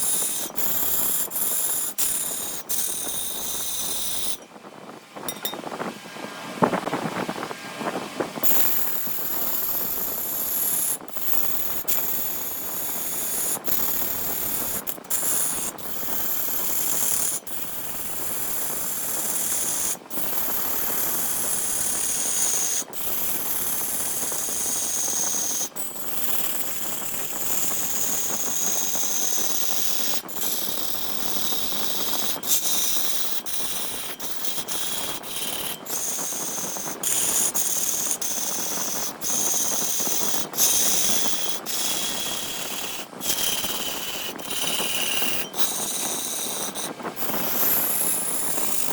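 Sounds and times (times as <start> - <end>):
wood lathe turning with tool: 0.0 - 4.5, 8.4 - 48.9.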